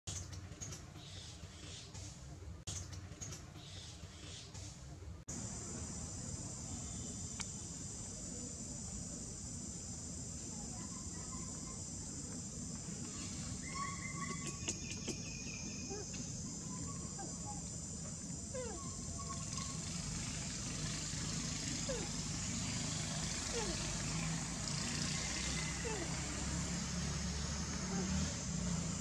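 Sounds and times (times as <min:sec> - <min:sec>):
insect chorus drone: 0:05.3 - 0:29.0.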